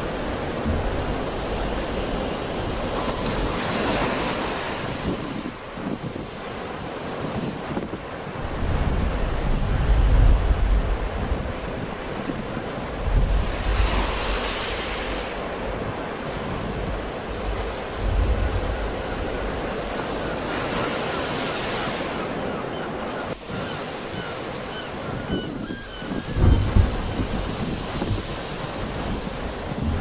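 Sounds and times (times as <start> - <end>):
sea waves breaking: 0.0 - 30.0
wind buffeting microphone: 0.0 - 30.0.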